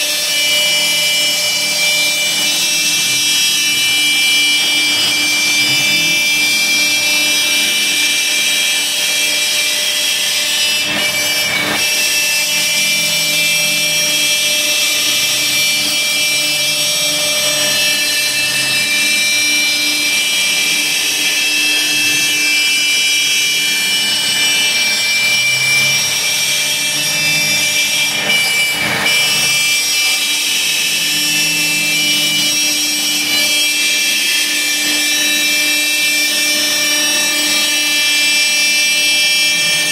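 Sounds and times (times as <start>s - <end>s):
cnc router spindle whining: 0.0s - 39.9s
dust collector drone: 0.0s - 39.9s.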